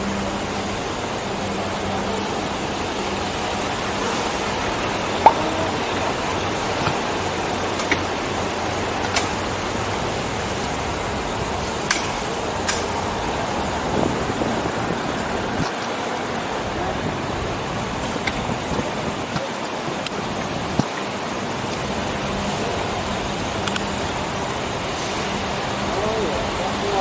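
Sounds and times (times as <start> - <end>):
passing cars and trucks: 0.0 - 27.0.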